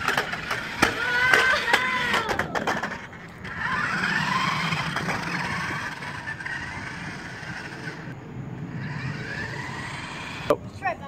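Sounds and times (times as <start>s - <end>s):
toy car electric motor whine: 0.0s - 8.2s, 8.8s - 10.5s
small wheels rolling on pavement: 0.0s - 11.0s.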